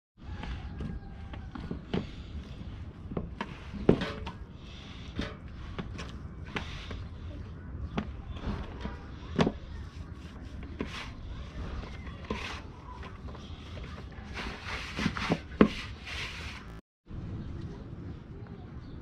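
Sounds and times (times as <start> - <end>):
hands kneading dough: 0.2 - 16.8.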